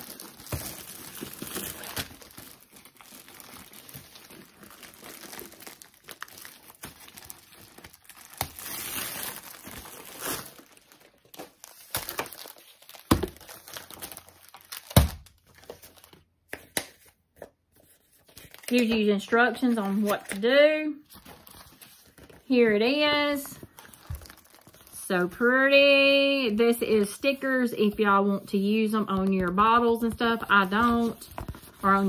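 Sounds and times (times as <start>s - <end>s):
plastic packaging crinkling: 0.0s - 16.3s, 18.1s - 20.4s, 21.0s - 25.0s, 28.9s - 32.0s.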